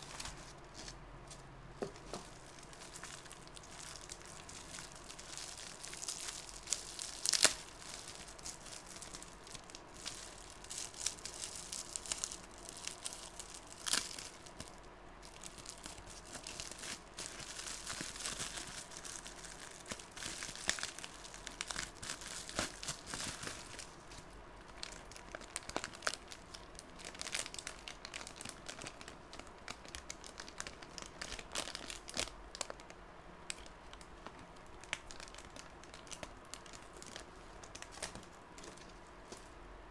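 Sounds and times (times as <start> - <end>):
bubble wrap crackles: 0.0 - 39.6
plastic wrap crinkling: 0.0 - 39.6.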